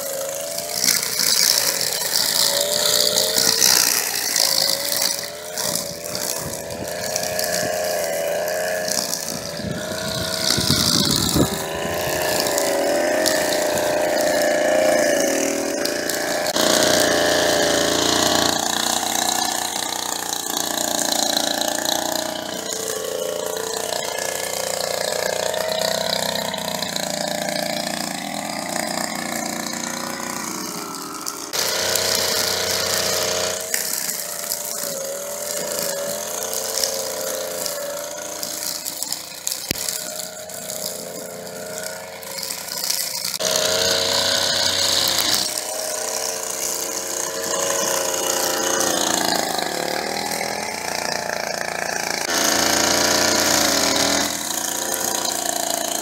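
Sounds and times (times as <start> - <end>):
string trimmer cutting grass: 0.0 - 56.0.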